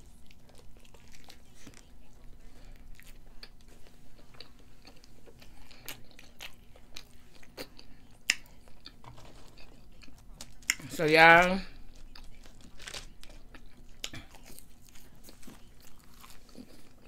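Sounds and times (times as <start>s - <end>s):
person chewing food: 0.0s - 10.9s, 11.6s - 17.0s.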